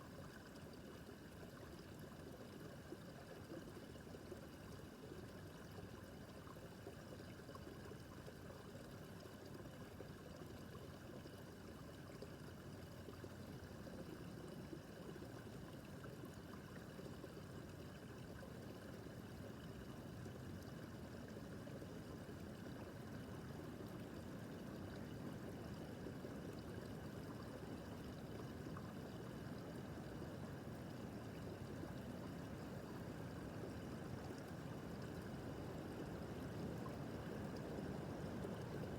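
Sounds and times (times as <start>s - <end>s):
water trickling over stones: 0.0s - 38.9s.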